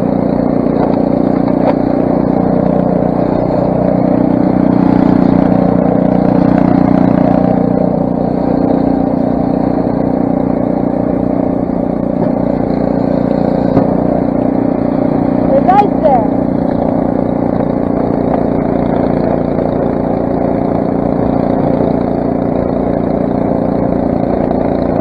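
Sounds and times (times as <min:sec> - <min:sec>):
snowblower engine running: 0:00.0 - 0:25.0.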